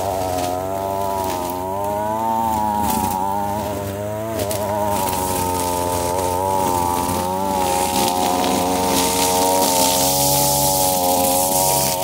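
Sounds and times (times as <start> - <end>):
string trimmer cutting grass: 0.0 - 12.0.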